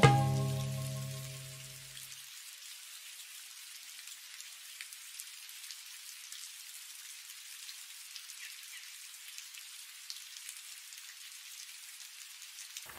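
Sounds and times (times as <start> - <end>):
steady rain hiss: 0.0 - 12.9.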